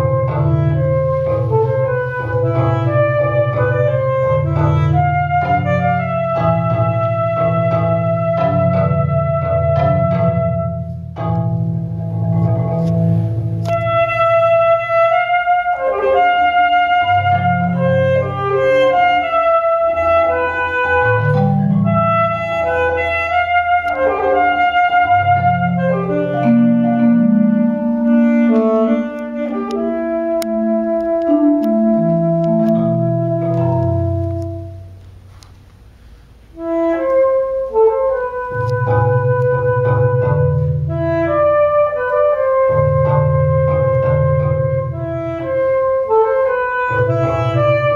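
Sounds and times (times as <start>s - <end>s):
marimba chords: 0.0s - 35.4s, 36.6s - 47.9s
alto saxophone melody: 0.0s - 35.5s, 36.4s - 47.9s.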